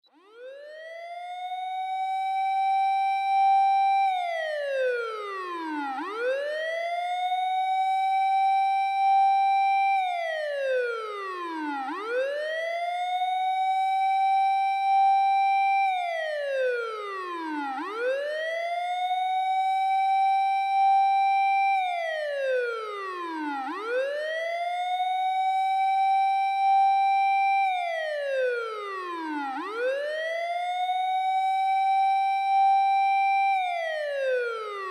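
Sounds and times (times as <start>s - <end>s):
fire engine siren wailing: 0.2s - 34.9s.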